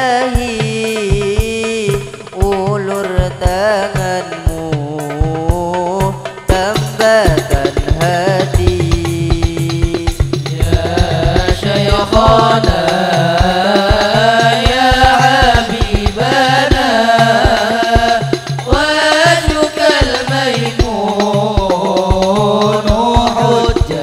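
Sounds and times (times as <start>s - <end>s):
hand drums beating: 0.0s - 24.0s
men singing: 0.0s - 24.0s.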